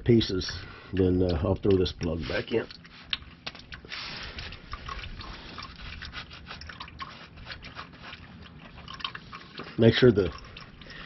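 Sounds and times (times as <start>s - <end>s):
oil trickling into drain pan: 0.0s - 11.0s.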